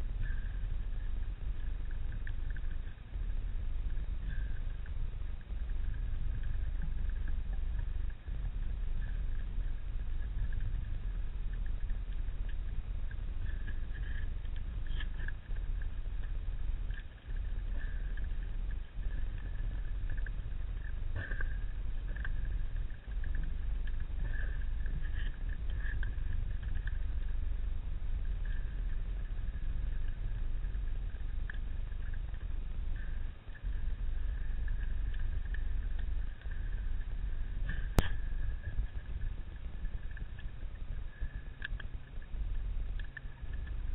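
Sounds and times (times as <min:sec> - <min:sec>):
faint underwater clicks: 0:00.0 - 0:43.9
underwater low rumble: 0:00.0 - 0:43.9.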